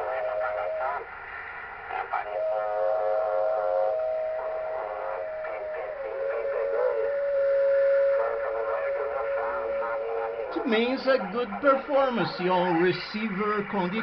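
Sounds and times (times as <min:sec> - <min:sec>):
radio whistle-like tone: 0:00.0 - 0:01.2, 0:01.9 - 0:12.9
faint garbled radio signals: 0:00.0 - 0:14.0
radio hiss: 0:00.0 - 0:14.0.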